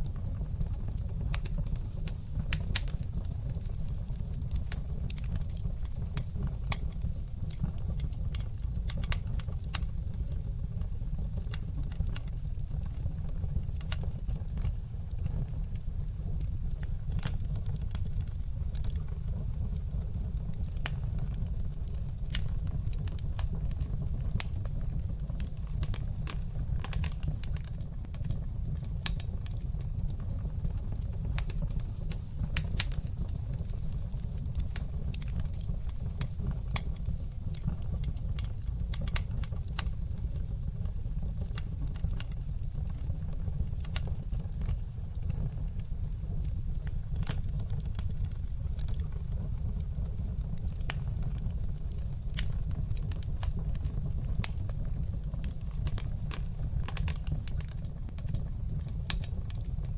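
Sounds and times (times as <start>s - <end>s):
fire burning in fireplace: 0.0s - 59.9s.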